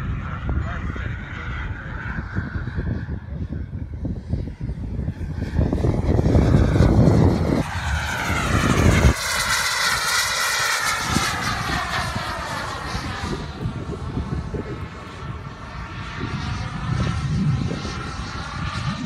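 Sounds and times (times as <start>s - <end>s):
jet engine low rumble: 0.0s - 19.0s
jet engine whine: 0.0s - 19.0s.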